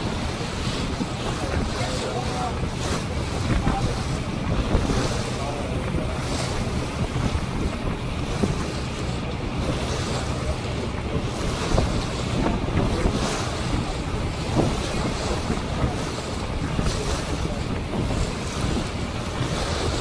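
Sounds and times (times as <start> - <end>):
boat engine hum: 0.0 - 20.0
choppy water rushing: 0.0 - 20.0
wind buffeting microphone: 0.0 - 20.0.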